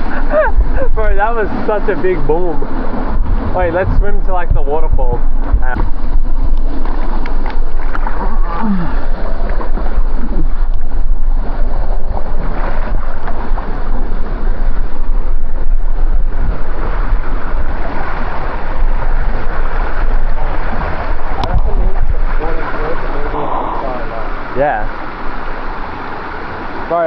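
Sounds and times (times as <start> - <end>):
water rushing with deep rumble: 0.0 - 27.0
water splashes: 0.0 - 27.0.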